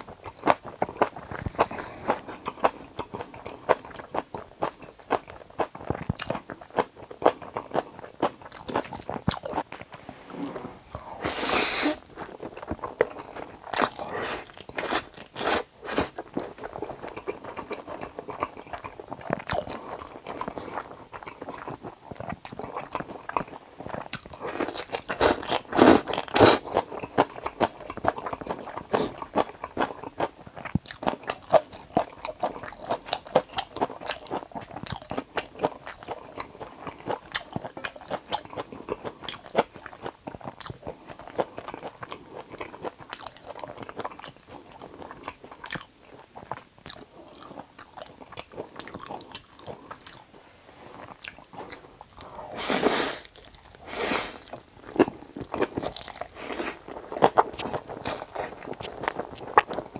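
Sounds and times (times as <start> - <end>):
crunching food: 0.0 - 10.1, 10.8 - 59.9
chewing noodles: 0.0 - 10.2, 10.8 - 59.9.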